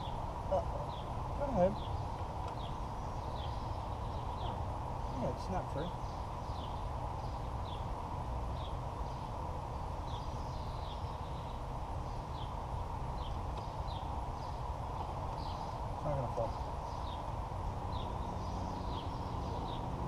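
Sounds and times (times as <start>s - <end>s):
small bird chirping: 0.0s - 20.0s
steady hiss of noise: 0.0s - 20.0s.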